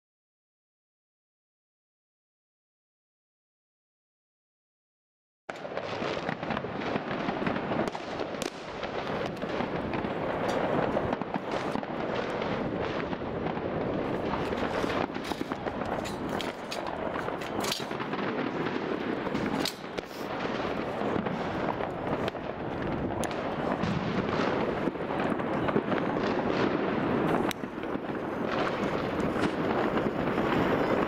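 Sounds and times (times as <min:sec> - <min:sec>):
fireworks crackling and popping: 0:05.5 - 0:31.0
fireworks sharp cracks: 0:05.5 - 0:31.0.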